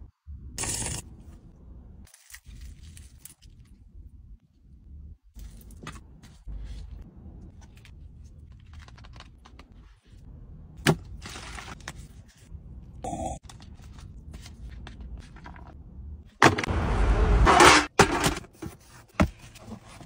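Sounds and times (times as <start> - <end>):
low steady rumble: 0.0 - 17.5.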